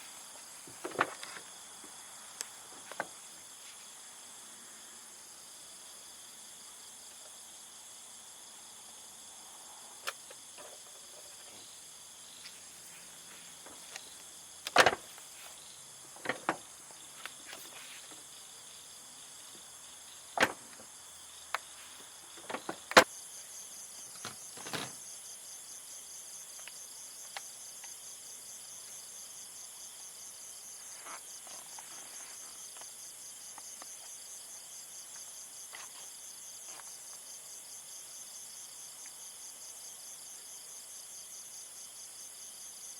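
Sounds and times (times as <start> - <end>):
crickets chirring: 0.0 - 42.9.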